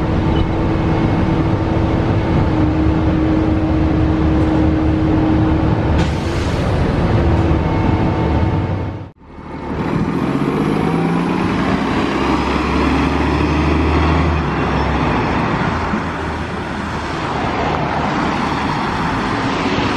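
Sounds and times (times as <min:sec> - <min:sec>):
bus engine accelerating: 0:00.0 - 0:19.9.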